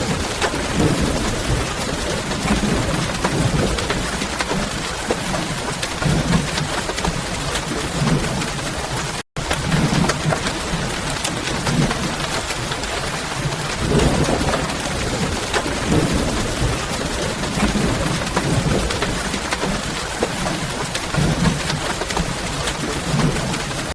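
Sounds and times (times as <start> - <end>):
steady rainfall: 0.0 - 23.9.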